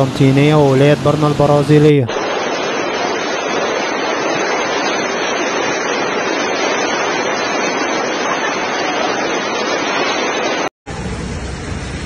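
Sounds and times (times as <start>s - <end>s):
floodwater rushing: 0.0s - 10.7s.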